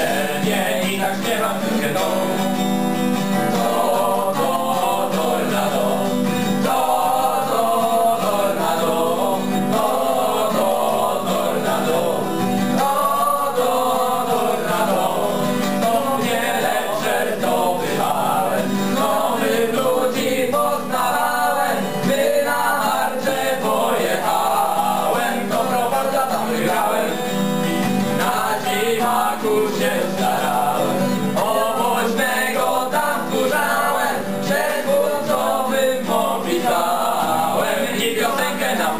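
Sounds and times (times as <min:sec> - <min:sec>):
acoustic guitar: 0:00.0 - 0:38.9
young men singing together: 0:00.0 - 0:38.9.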